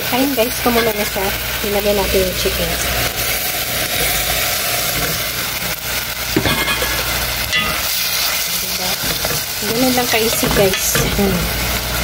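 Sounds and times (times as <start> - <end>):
sauce bubbling in a pot: 1.1 - 12.0.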